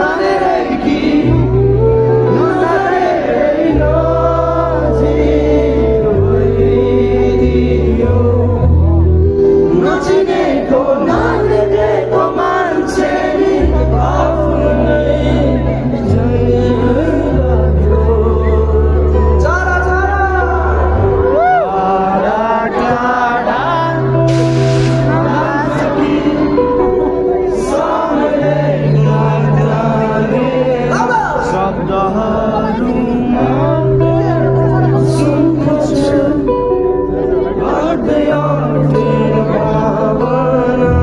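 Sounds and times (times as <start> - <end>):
pop-rock song over loud speakers: 0.0 - 41.0.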